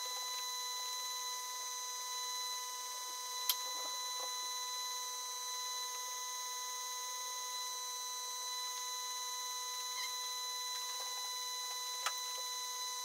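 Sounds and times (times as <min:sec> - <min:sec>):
vacuum pump whining: 0:00.0 - 0:13.0.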